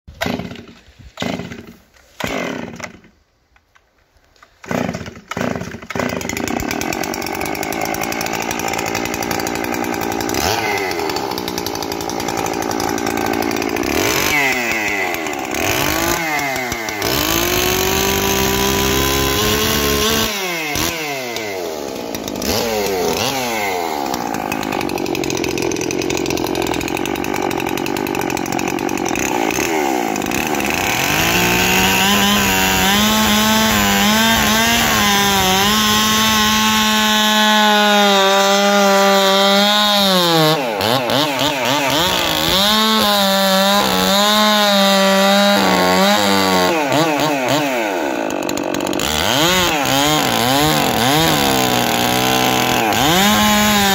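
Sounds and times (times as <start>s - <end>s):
chainsaw starting and revving: 0.1s - 3.2s, 4.4s - 53.9s.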